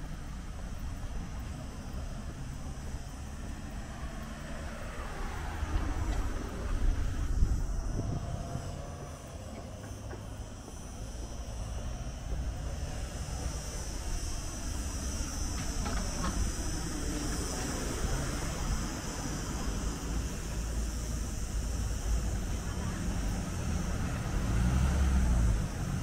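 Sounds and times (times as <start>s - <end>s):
steady low rumble: 0.0s - 24.5s
motor vehicle passing: 1.4s - 26.0s.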